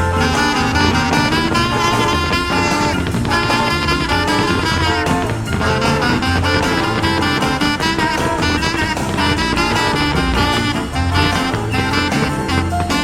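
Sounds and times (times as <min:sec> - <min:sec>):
swing pop music with brass: 0:00.0 - 0:13.0.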